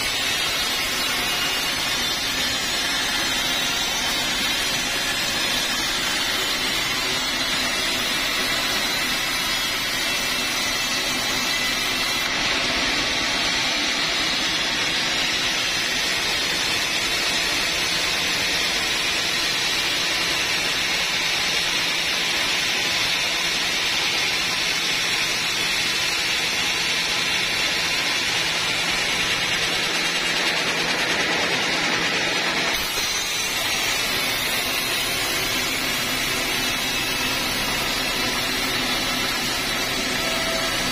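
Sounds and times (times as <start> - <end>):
band saw sawing through log: 0.0 - 20.1, 22.9 - 40.9.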